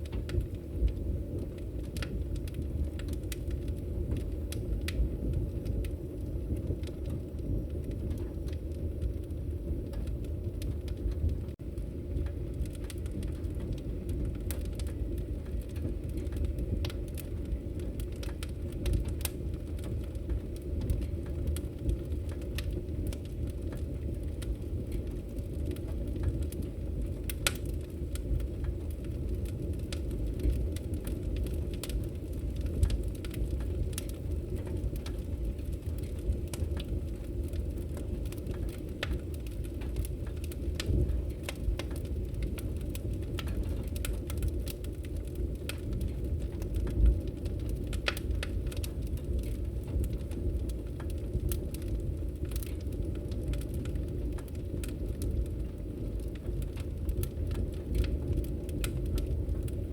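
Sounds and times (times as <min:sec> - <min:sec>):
fire flames rumbling: 0:00.0 - 0:59.9
wood crackling and popping: 0:00.0 - 0:59.9.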